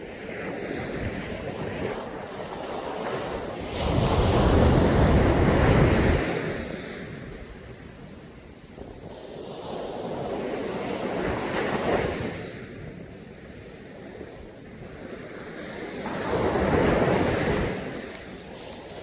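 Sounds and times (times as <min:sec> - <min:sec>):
sea waves breaking on a beach: 0:00.0 - 0:19.0.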